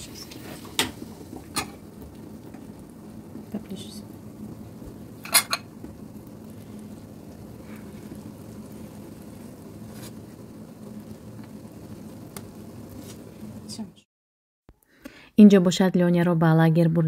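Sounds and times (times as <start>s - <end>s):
jam bubbling in a pot: 0.0s - 13.8s.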